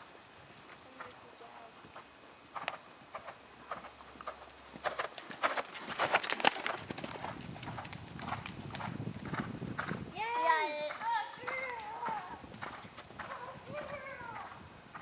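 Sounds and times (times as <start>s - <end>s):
horse hoofbeats on sand: 1.9s - 15.0s.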